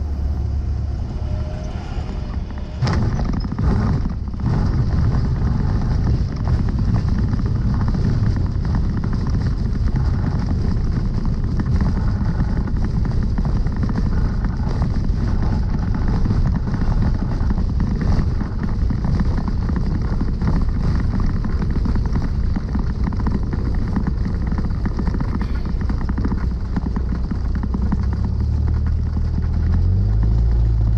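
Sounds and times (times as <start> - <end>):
propeller plane engine droning: 0.0 - 30.9.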